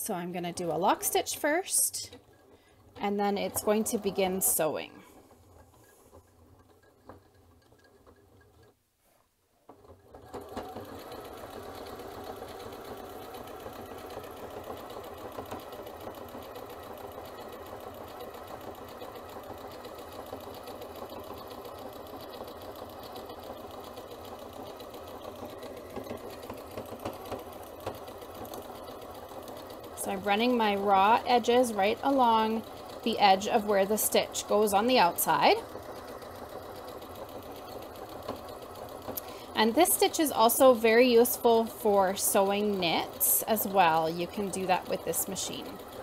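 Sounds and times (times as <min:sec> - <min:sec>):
sewing machine stitching: 0:00.0 - 0:08.8, 0:09.6 - 0:46.0.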